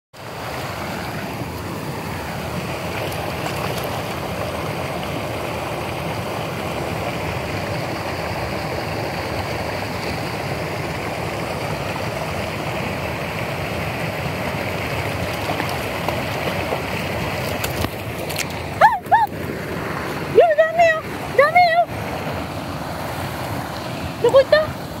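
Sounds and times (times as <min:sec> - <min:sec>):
stream rushing over rocks: 0:00.2 - 0:25.0.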